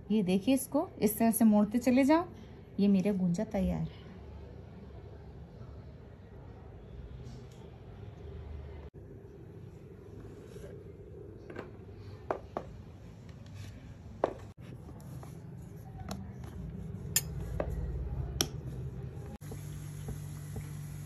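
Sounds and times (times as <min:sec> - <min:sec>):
low steady hum: 0:01.6 - 0:21.0.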